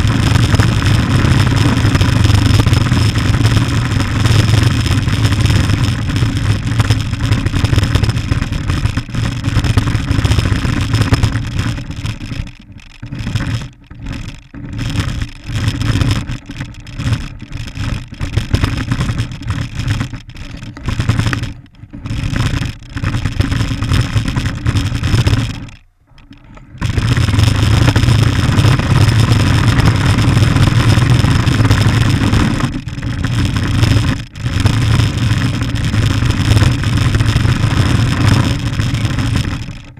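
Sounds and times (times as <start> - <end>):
radio-controlled car motor running: 0.0 - 39.9.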